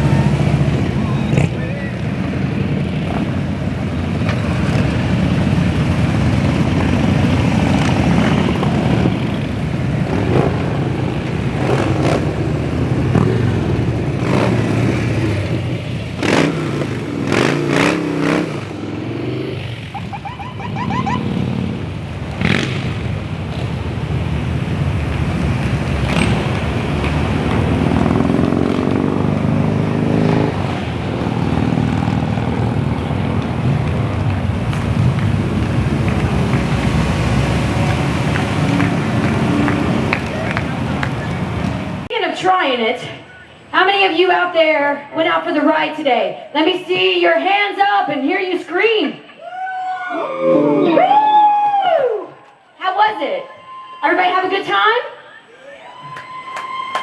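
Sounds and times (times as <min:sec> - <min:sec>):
motorcycle engines rumbling: 0:00.0 - 0:51.6.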